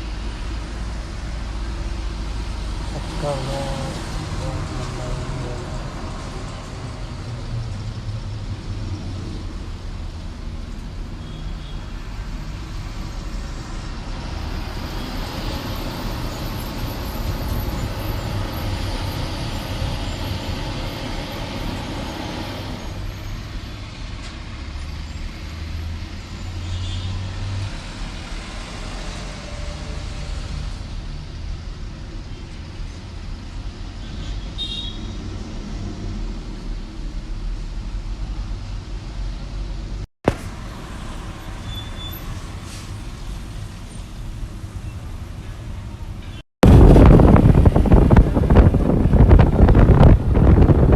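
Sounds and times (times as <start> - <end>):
highway traffic passing: 0.0 - 32.2, 38.0 - 50.9.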